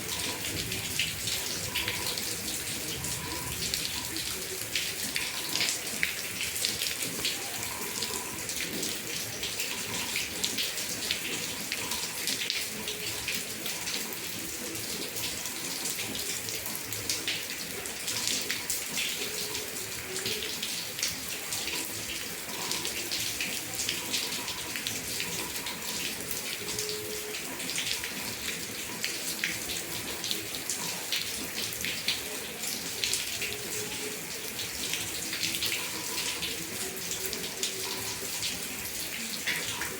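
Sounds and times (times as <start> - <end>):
heavy rain splashing: 0.0 - 39.9.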